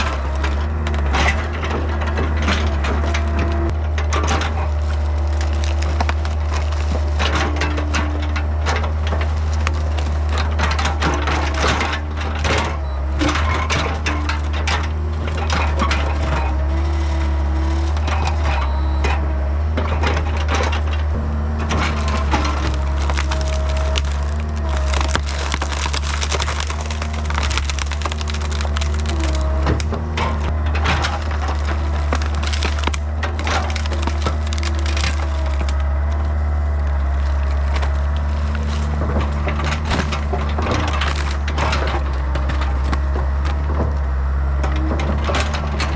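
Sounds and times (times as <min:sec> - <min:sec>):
excavator diesel engine: 0:00.0 - 0:45.9
wood cracking and splintering: 0:00.0 - 0:45.9.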